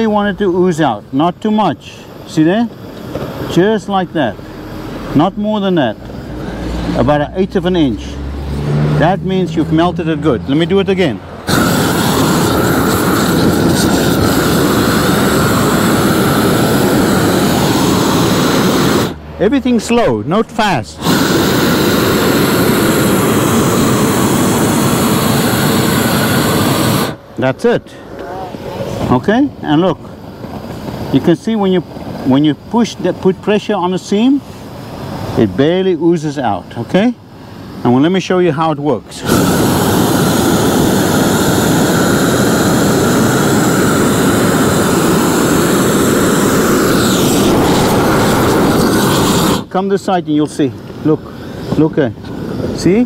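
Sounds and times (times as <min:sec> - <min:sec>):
propane torch burning: 0:00.0 - 0:07.8, 0:08.4 - 0:53.0.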